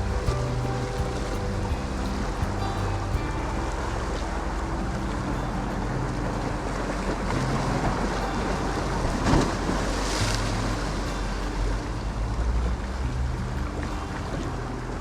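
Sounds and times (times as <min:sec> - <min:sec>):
waves washing on rocks: 0:00.0 - 0:15.0
wind buffeting microphone: 0:00.0 - 0:15.0.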